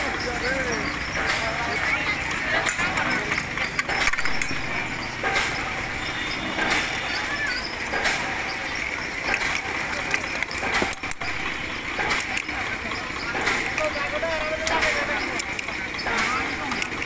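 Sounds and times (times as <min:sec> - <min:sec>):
crowd chatter: 0:00.0 - 0:17.0
steady noise bed: 0:00.0 - 0:17.0
clicks and knocks: 0:01.0 - 0:17.0.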